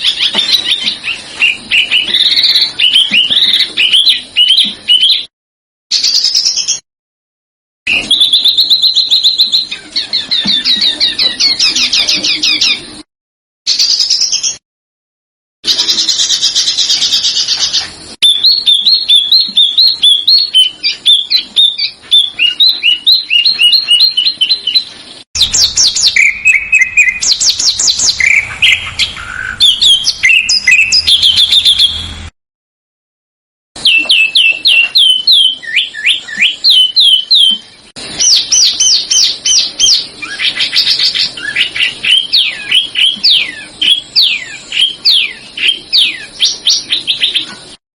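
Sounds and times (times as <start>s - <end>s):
songbirds chirping and trilling: 0.0s - 5.3s, 5.9s - 6.8s, 7.9s - 13.1s, 13.7s - 14.6s, 15.6s - 32.3s, 33.8s - 47.8s.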